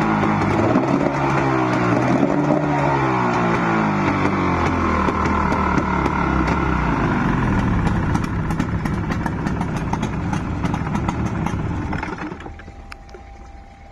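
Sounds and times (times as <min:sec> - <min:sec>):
outboard motor running: 0:00.0 - 0:13.9.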